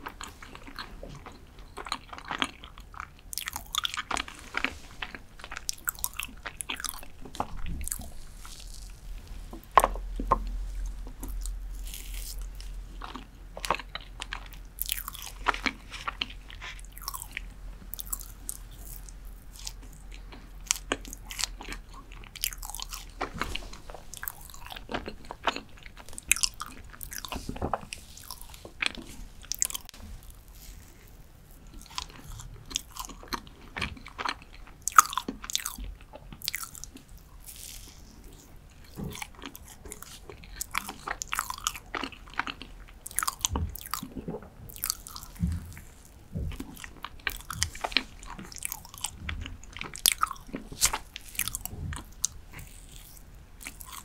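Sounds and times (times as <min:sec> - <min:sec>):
chewing cheesecake: 0:00.0 - 0:54.0.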